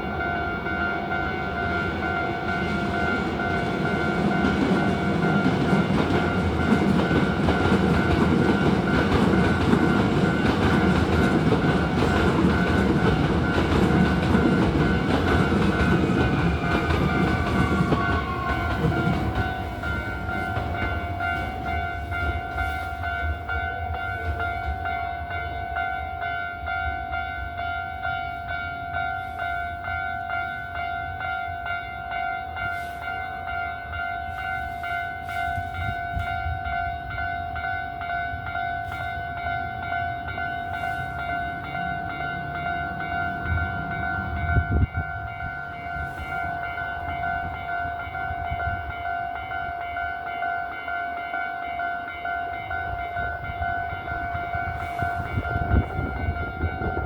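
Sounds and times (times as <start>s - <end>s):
level crossing bell ringing: 0.0s - 57.0s
low rumble of passing train: 0.0s - 57.0s.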